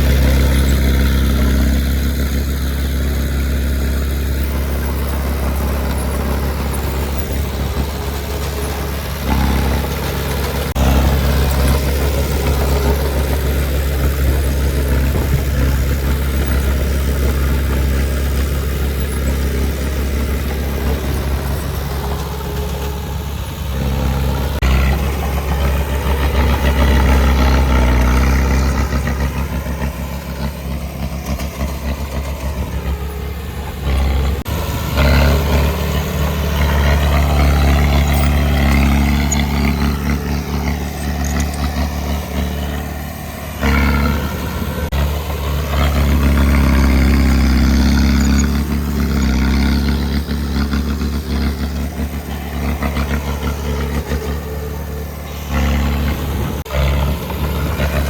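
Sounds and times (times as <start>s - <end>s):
heavy diesel engine working: 0.0s - 58.0s
machinery clatter: 0.0s - 58.0s.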